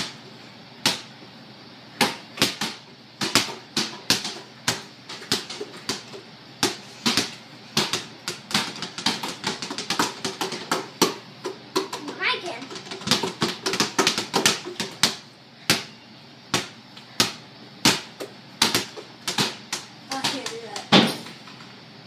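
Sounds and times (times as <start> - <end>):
basketballs bouncing on hard floor: 0.8 - 1.1, 2.0 - 21.3.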